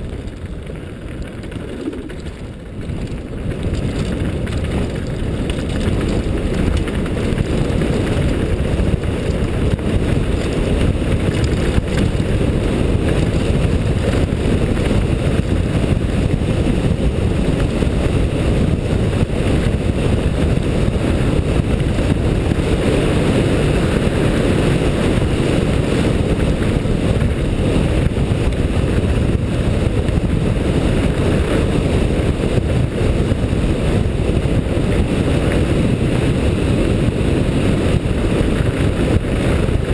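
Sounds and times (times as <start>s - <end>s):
bike rattling: 0.0s - 39.9s
bike tyres rolling on gravel: 0.0s - 39.9s
wind rushing over camera: 0.0s - 39.9s.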